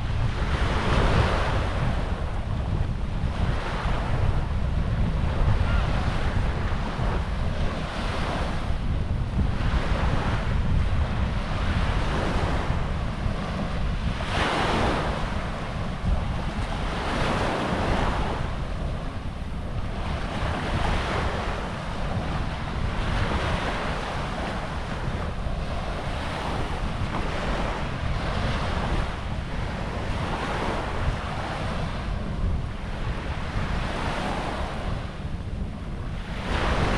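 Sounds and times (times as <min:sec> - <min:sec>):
small waves washing onto sand: 0:00.0 - 0:36.9
wind buffeting microphone: 0:00.0 - 0:36.9.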